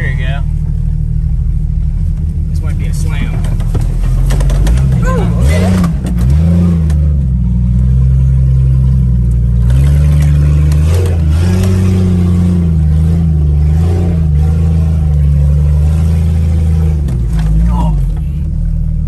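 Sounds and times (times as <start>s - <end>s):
unmuffled engine revving: 0.0s - 19.0s.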